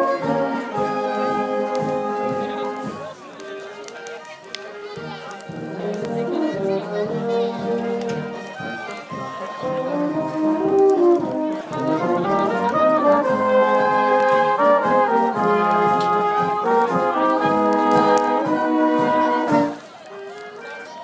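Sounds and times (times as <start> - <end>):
brass instruments playing in harmony: 0.0 - 20.8.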